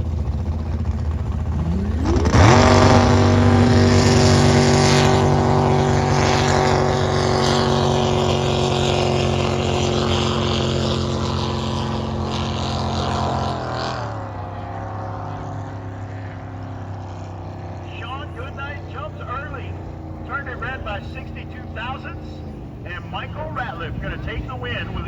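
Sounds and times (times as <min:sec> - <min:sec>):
racing boat engines roaring: 0:00.0 - 0:25.0.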